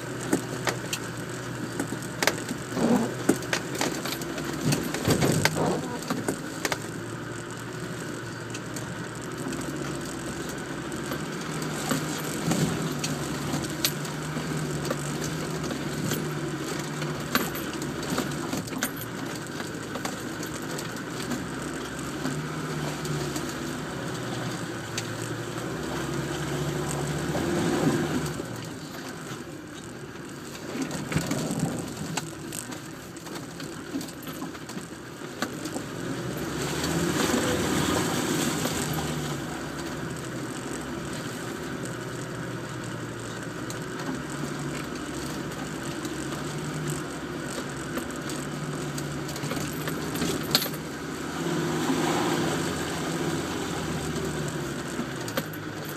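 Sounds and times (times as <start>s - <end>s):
body knocks and rattles: 0.0s - 7.4s, 8.6s - 51.1s
engine pulling at low speed: 0.0s - 55.9s.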